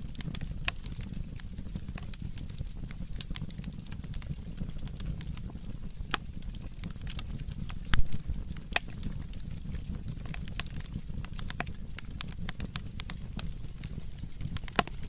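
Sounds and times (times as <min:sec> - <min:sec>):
firewood crackling and popping: 0:00.0 - 0:15.0
low rumble of fire: 0:00.0 - 0:15.0.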